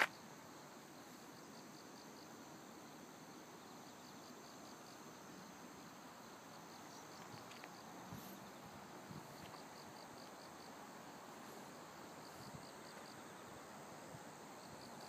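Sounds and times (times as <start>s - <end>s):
faint insects chirping: 0.0s - 15.0s.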